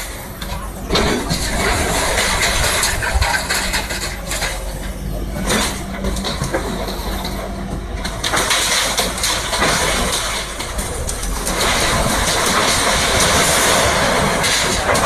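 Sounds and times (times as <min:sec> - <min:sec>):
excavator diesel engine running: 0:00.0 - 0:15.0
harsh mechanical noise: 0:00.0 - 0:15.0.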